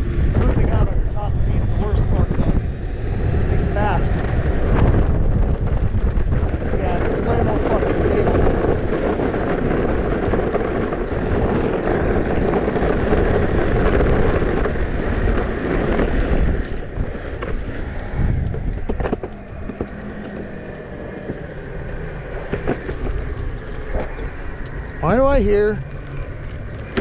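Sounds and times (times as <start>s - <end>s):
skateboard wheels rolling on cement: 0.0s - 27.0s
wind on microphone: 0.0s - 27.0s.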